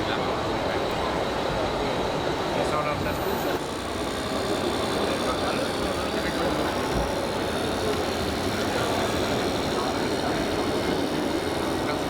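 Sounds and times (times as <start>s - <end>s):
faint voices: 0.0s - 12.0s
rumbling hall background noise: 0.0s - 12.0s.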